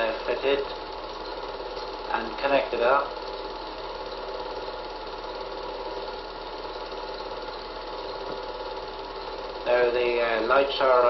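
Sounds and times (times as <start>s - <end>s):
small motor whirring: 0.0s - 11.0s.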